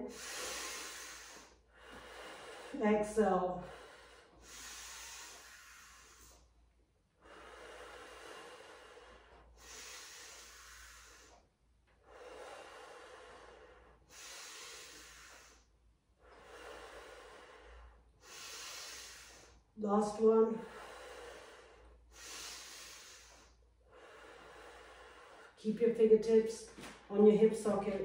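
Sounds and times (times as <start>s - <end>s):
woman breathing deeply: 0.0s - 25.7s.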